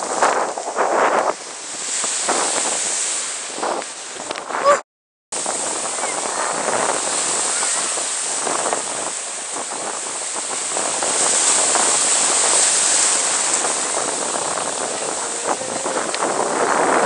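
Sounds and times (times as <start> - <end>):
waves breaking in shallows: 0.0 - 4.8, 5.4 - 17.0.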